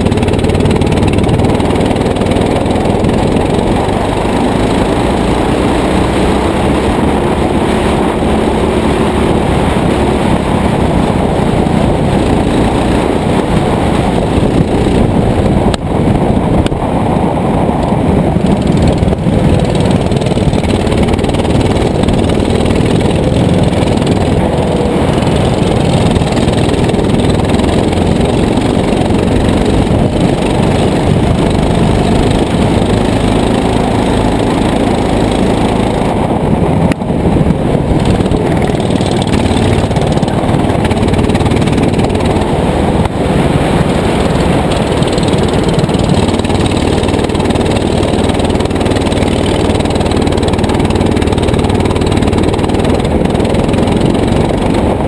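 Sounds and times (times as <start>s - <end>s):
go-kart engine running hard: 0.0s - 55.0s.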